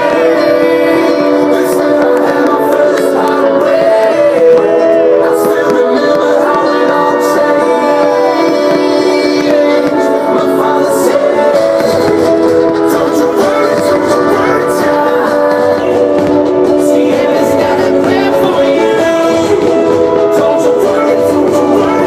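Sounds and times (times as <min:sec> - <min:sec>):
loud music with held chords: 0:00.0 - 0:22.0.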